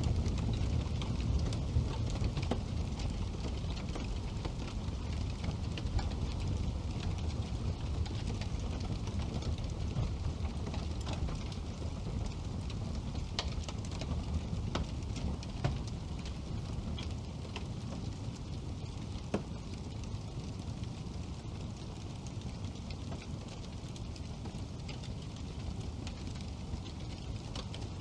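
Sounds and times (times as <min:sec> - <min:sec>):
fire crackling and popping: 0:00.0 - 0:28.0
low rumble of flames: 0:00.0 - 0:28.0.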